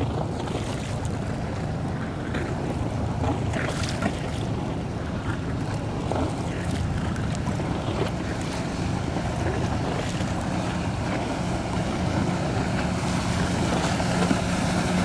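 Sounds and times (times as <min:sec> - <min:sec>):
water slapping against boat hull: 0:00.0 - 0:15.0
wind rumbling on microphone: 0:00.0 - 0:15.0.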